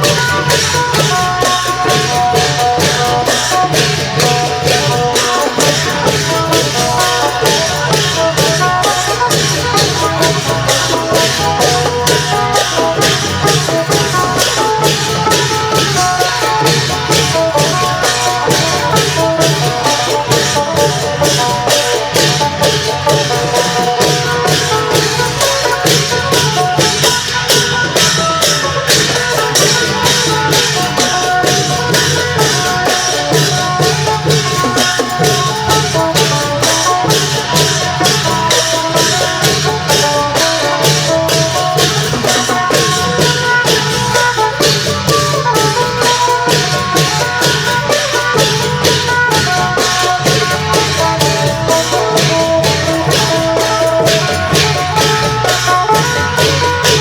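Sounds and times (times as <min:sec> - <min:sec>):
jangling cymbals and rattles: 0:00.0 - 0:57.0
long drums fast rhythm: 0:00.0 - 0:57.0.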